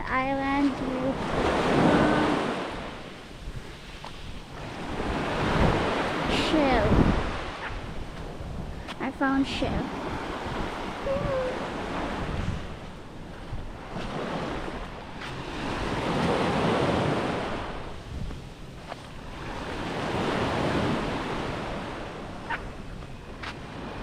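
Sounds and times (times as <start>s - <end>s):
wind rumbling on microphone: 0.0s - 24.0s
small waves washing on sand: 0.5s - 24.0s.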